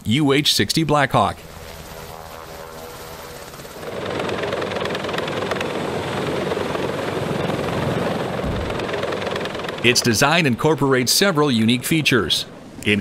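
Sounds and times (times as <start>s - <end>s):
helicopter hovering hum: 0.6s - 13.0s
loud rough helicopter rotor: 1.4s - 13.0s.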